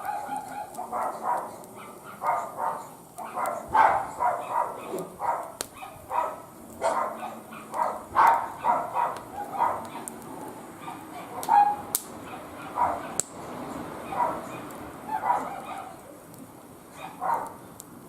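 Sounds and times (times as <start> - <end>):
dog barking: 0.0 - 13.3, 14.0 - 16.1, 16.9 - 17.6.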